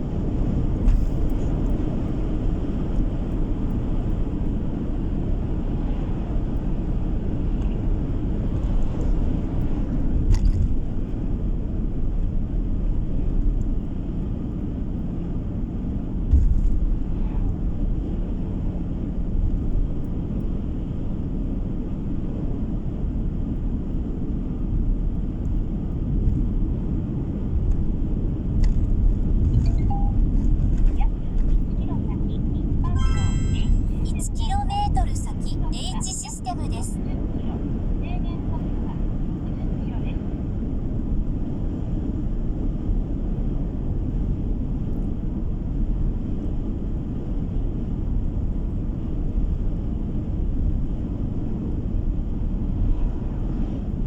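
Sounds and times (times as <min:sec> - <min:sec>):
car interior rumble: 0:00.0 - 0:54.0.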